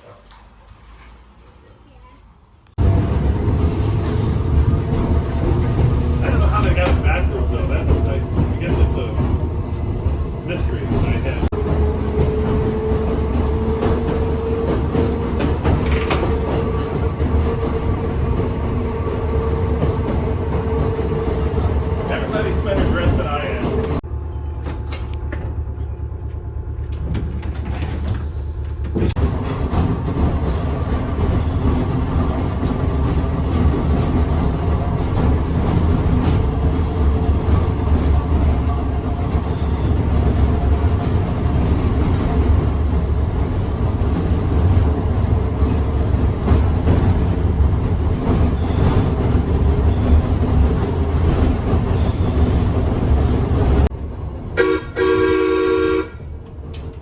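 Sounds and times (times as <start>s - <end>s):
streetcar wheels rumbling on rails: 0.0s - 57.0s.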